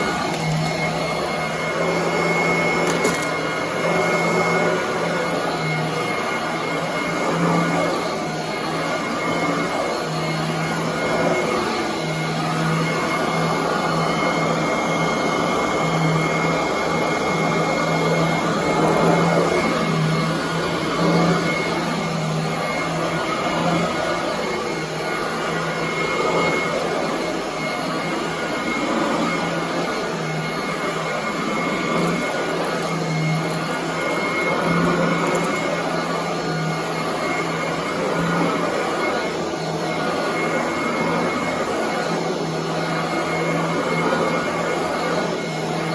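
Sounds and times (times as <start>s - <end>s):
vacuum cleaner running on carpet: 0.0s - 45.9s.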